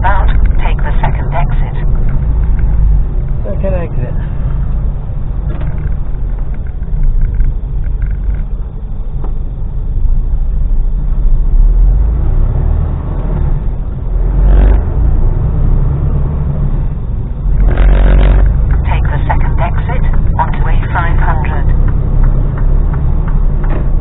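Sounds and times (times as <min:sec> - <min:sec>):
lorry diesel engine rumble: 0:00.0 - 0:24.0
road noise: 0:00.0 - 0:24.0.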